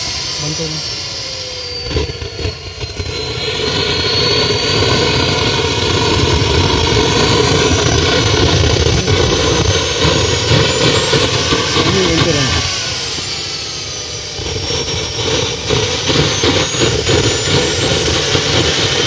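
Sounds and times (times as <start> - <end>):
high turbine whine: 0.0 - 19.0
model gas turbine jet rush: 0.0 - 19.0.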